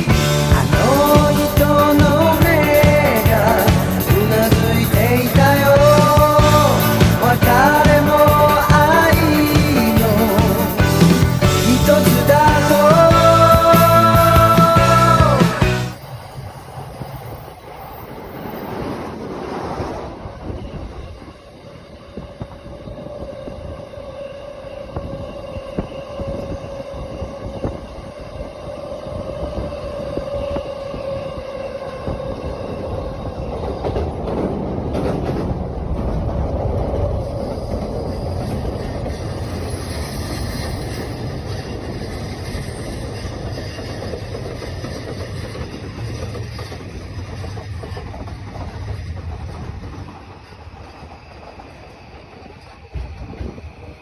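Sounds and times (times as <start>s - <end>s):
train rumbling on rails: 0.0s - 54.0s
train whine: 0.0s - 54.0s.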